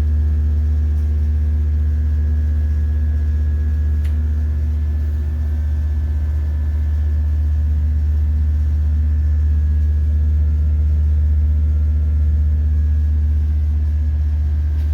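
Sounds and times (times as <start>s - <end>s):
low machine hum: 0.0s - 14.9s.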